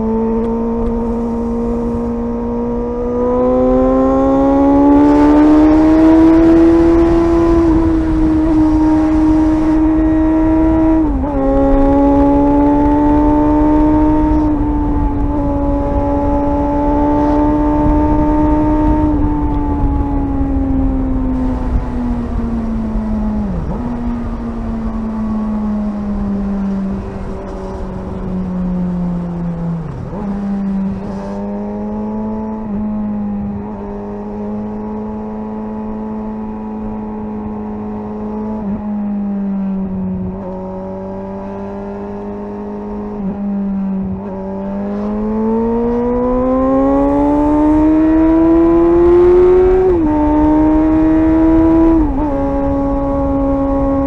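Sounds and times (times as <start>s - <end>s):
gear changes: 0.0s - 54.0s
motorcycle engine accelerating: 0.0s - 54.0s.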